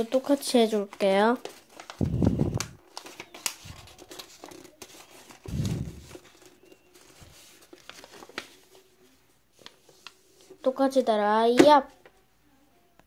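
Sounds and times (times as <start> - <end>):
paper rustling and crinkling: 0.0 - 10.7.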